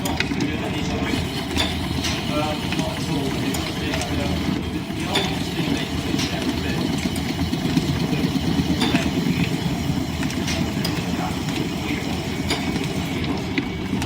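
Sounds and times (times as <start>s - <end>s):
wood lathe and belts rumbling: 0.0s - 14.0s.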